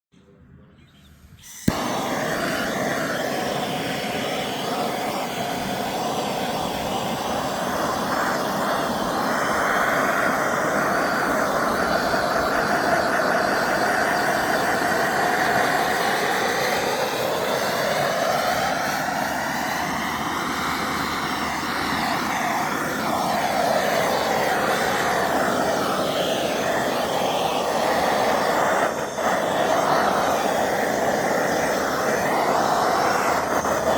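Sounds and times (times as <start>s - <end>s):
chainsaw carving wood: 1.4s - 33.9s.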